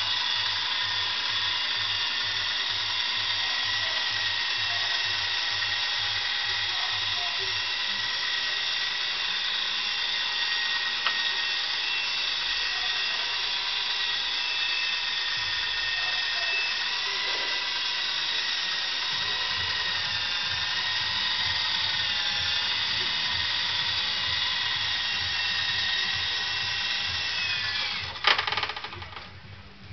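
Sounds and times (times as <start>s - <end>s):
toy helicopter motor whine: 0.0s - 29.9s.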